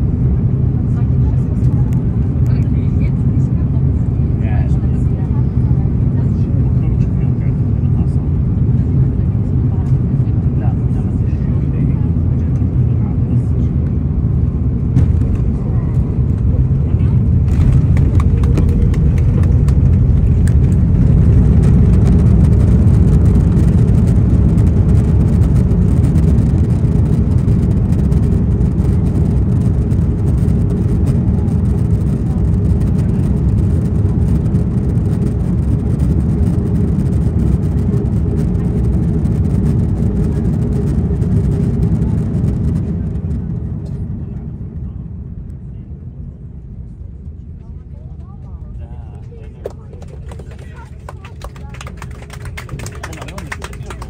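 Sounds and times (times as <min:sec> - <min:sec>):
aircraft engine and runway rumble: 0:00.0 - 0:54.0
steady cabin hum: 0:00.0 - 0:54.0.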